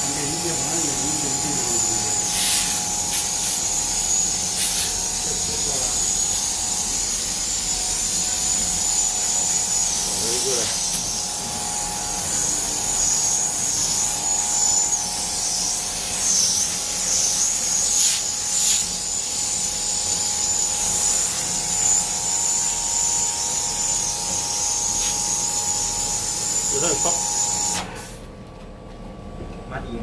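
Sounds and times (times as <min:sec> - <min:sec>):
high-pressure water jet hissing: 0:00.0 - 0:28.0
washer pump whine: 0:00.0 - 0:28.5.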